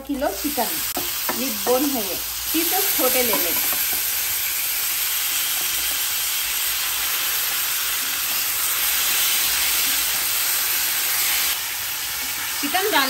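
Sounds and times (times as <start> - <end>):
chicken sizzling in hot fat: 0.0 - 13.0.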